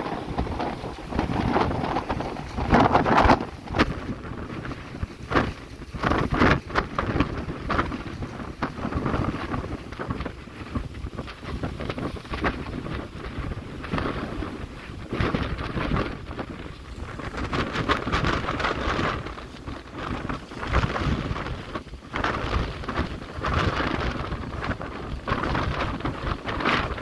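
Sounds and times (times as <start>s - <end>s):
rush of the sea: 0.0s - 27.0s
wind buffeting microphone: 0.0s - 27.0s.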